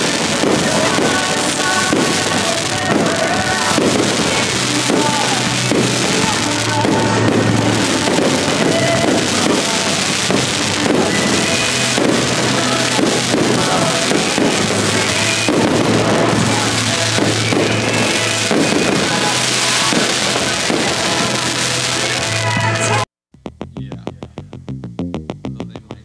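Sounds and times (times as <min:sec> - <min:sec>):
fireworks bangs: 0:00.0 - 0:23.1
music: 0:00.0 - 0:26.0.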